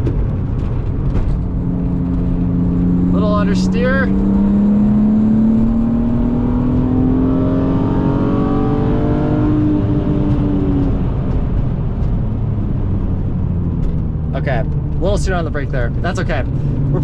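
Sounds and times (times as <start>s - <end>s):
car engine accelerating: 0.0s - 17.0s
road and tyre noise: 0.0s - 17.0s.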